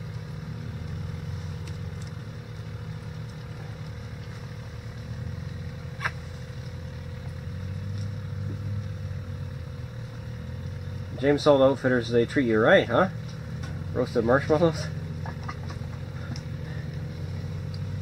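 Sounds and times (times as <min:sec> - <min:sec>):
low motor hum: 0:00.0 - 0:18.0
thin steady whine: 0:00.0 - 0:18.0.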